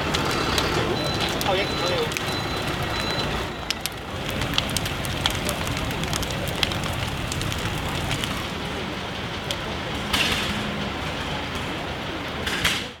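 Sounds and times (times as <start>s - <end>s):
bonfire flames rushing: 0.0s - 13.0s
fire crackling and popping: 0.0s - 13.0s.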